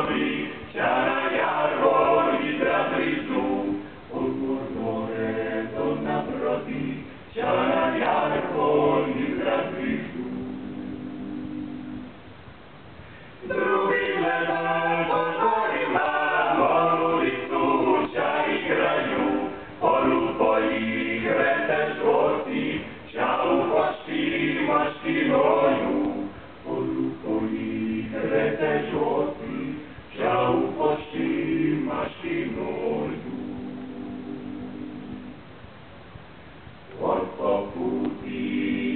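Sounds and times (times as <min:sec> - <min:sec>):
male voices singing a cappella: 0:00.0 - 0:11.0, 0:13.4 - 0:34.4, 0:37.0 - 0:38.9.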